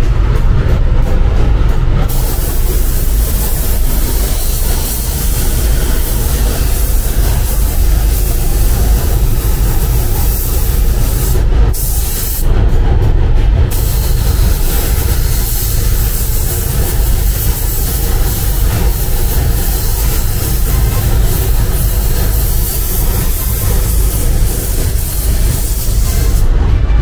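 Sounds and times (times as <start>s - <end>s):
low rumble of booth air: 0.0s - 27.0s
spray gun hissing: 2.1s - 12.5s, 13.7s - 26.5s.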